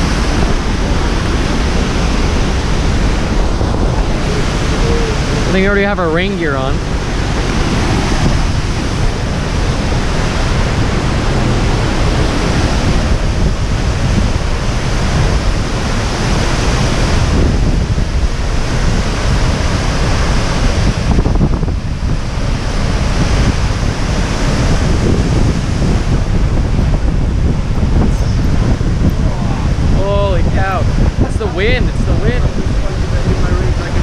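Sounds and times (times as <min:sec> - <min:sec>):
waterfall roaring: 0:00.0 - 0:34.0
wind gusting against microphone: 0:00.0 - 0:34.0.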